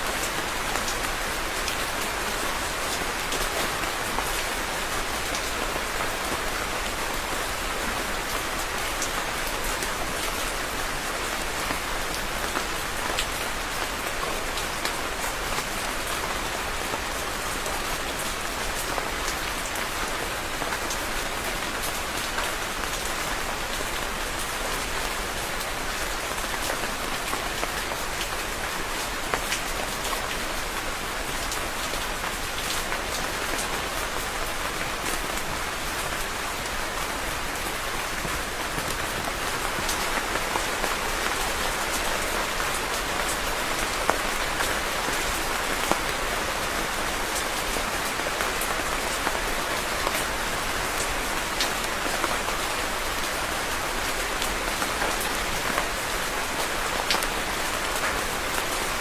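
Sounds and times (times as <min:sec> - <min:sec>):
rain falling on a surface: 0:00.0 - 0:59.0.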